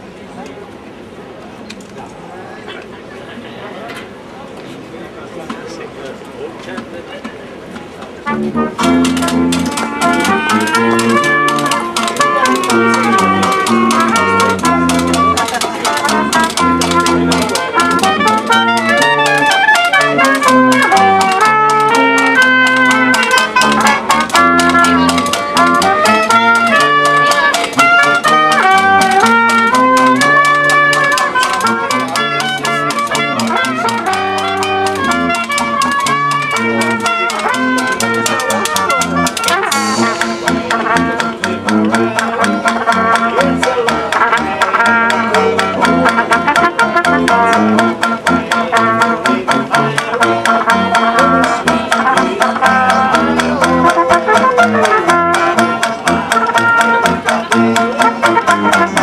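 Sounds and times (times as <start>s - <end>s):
banjo strumming: 6.8s - 59.0s
washboard rhythm: 6.8s - 59.0s
trumpet melody: 8.2s - 59.0s
tuba bass: 8.2s - 59.0s.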